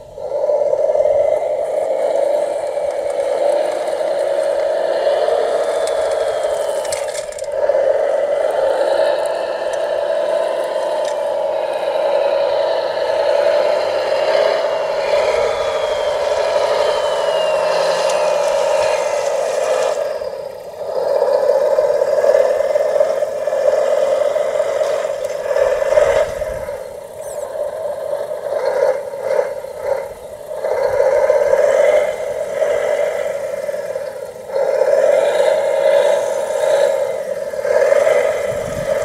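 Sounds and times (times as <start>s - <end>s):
toy motor whine: 0.0s - 39.0s.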